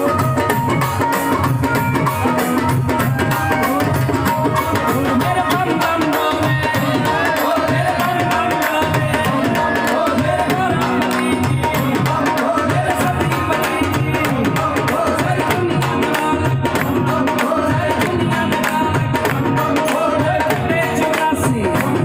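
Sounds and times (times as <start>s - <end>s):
fast hand-drum rhythm: 0.0s - 22.0s
man singing into a microphone: 0.0s - 22.0s.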